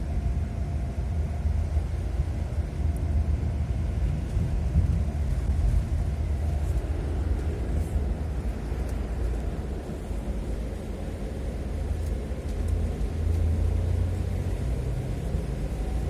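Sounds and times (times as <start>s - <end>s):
low wind rumble on microphone: 0.0s - 16.0s.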